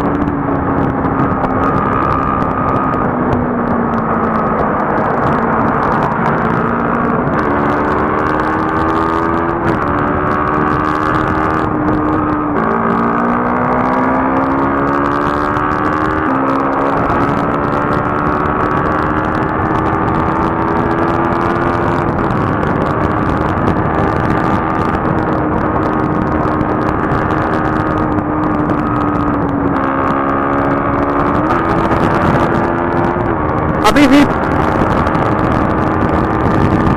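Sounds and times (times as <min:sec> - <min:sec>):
motorcycle engine accelerating: 0:00.0 - 0:36.9
wind rush on microphone: 0:00.0 - 0:36.9.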